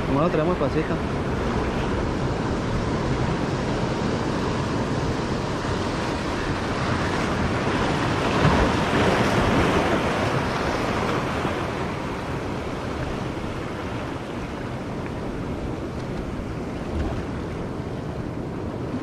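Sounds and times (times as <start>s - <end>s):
surf washing over rocks: 0.0s - 19.0s.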